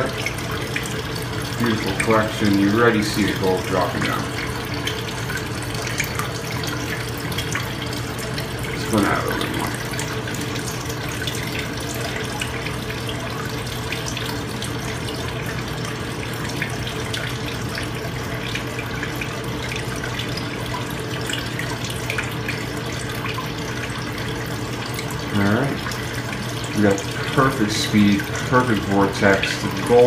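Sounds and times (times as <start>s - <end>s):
low steady hum: 0.0s - 30.0s
water swirling in a bowl: 0.0s - 30.0s.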